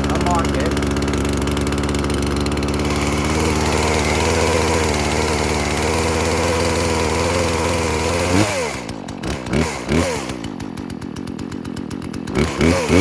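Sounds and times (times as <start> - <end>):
chainsaw idling and revving: 0.0 - 13.0.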